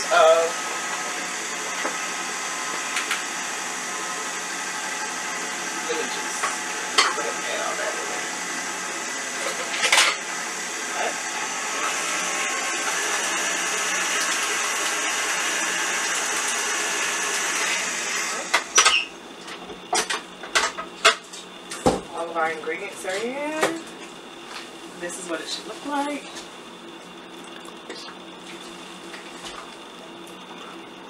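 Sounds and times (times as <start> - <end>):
stand mixer running: 0.0 - 31.0.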